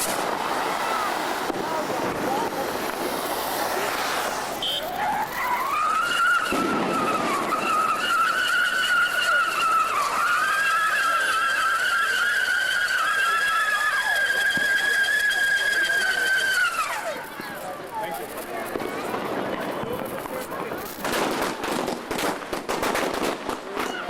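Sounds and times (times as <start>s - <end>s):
firework whistling: 0.0s - 24.0s.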